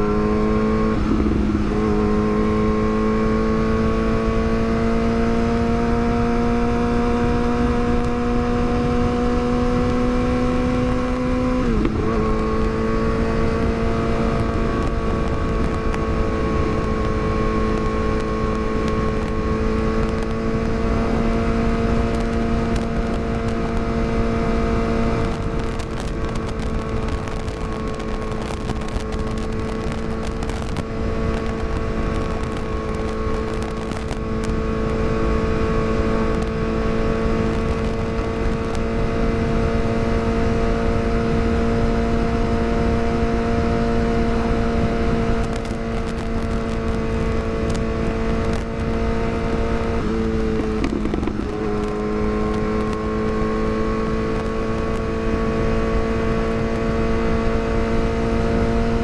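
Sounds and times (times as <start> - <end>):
sport-bike engine at high revs: 0.0 - 59.0.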